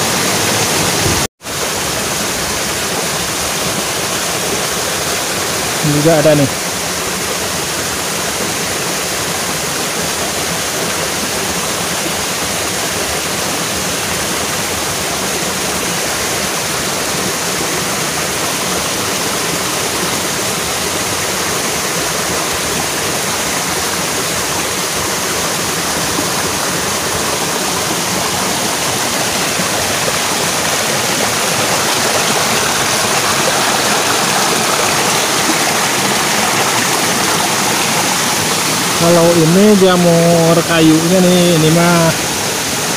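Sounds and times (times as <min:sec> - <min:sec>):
waterfall and stream rushing: 0:00.0 - 0:42.9.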